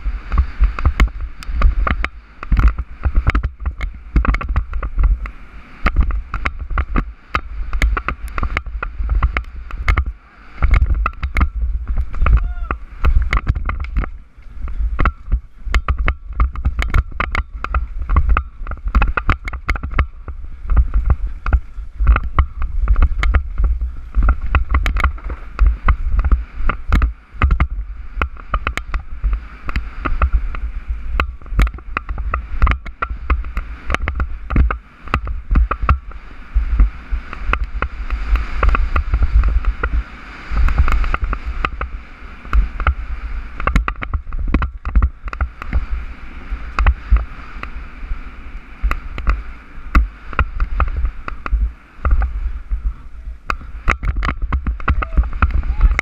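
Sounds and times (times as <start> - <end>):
wheels knocking on bumps: 0.0 - 47.9, 48.5 - 56.0
bike rattling: 0.0 - 56.0
wind buffeting microphone: 0.0 - 56.0.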